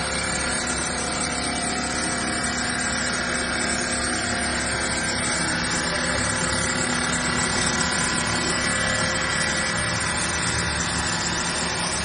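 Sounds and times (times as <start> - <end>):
constant saw whine: 0.0 - 12.0
stone saw cutting slab: 0.0 - 12.0.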